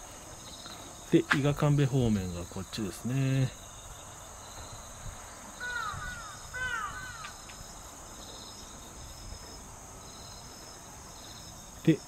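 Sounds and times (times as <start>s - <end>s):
bird calling: 0.0s - 12.0s
insects chirring: 0.0s - 12.0s.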